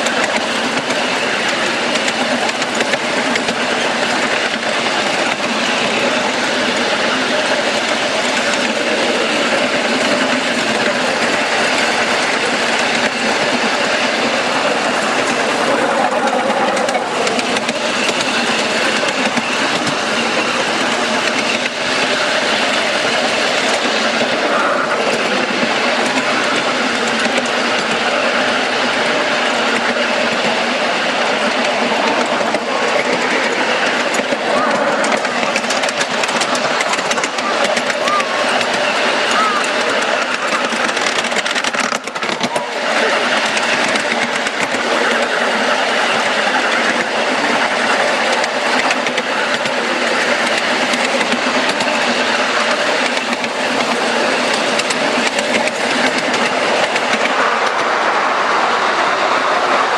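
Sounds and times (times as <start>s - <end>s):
small train wheels clattering on rails: 0.0s - 59.9s.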